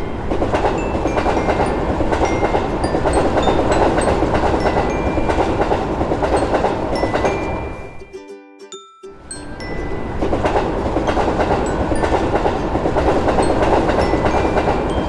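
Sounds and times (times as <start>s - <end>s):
train wheels clattering on rails: 0.0s - 7.8s, 9.9s - 15.0s.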